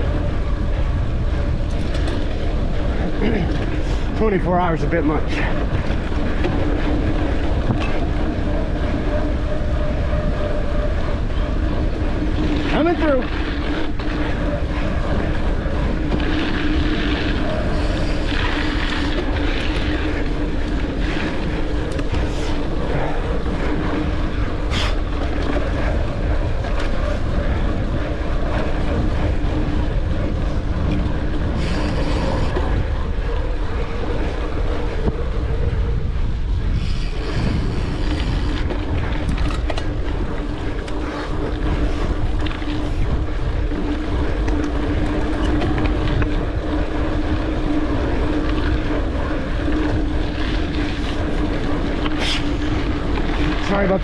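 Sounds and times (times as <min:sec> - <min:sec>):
bike tyres rolling over dirt: 0:00.0 - 0:54.0
wind on microphone: 0:00.0 - 0:54.0.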